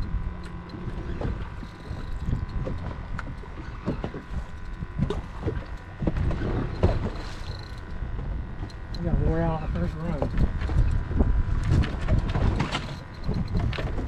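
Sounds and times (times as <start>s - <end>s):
faint steady hum: 0.0s - 14.0s
knocks and thumps on boat: 0.0s - 14.0s
low rumble: 0.0s - 14.0s.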